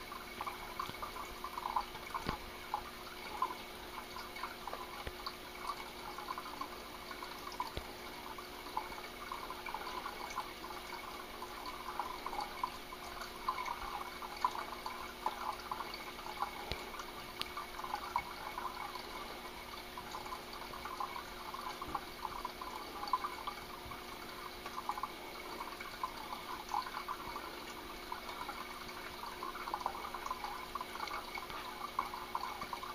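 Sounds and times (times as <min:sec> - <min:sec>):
faint steady hum: 0:00.0 - 0:32.9
water trickling and dripping: 0:00.0 - 0:32.9.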